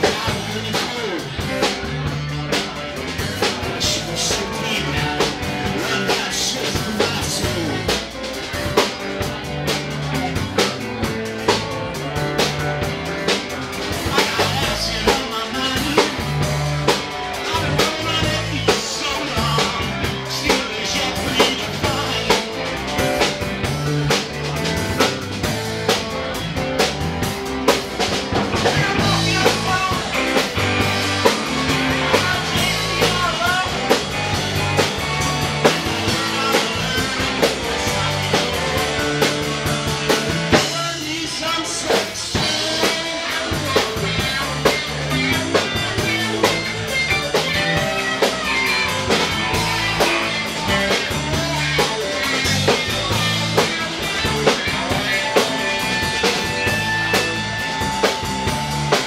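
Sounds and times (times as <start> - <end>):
drum kit beat: 0.0 - 59.0
live rock band playing: 0.0 - 59.0.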